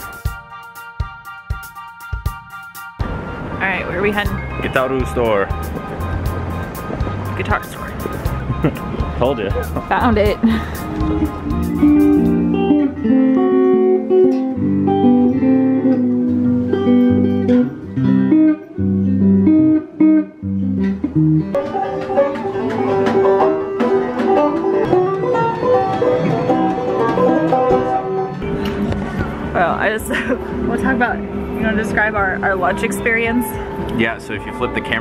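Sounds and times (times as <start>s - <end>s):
plucked and strummed guitar: 0.0s - 35.0s
low bass notes: 3.0s - 22.2s, 24.2s - 35.0s.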